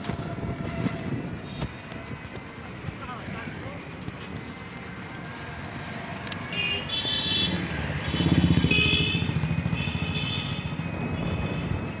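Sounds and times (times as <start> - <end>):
motorcycle engine riding: 0.0 - 12.0.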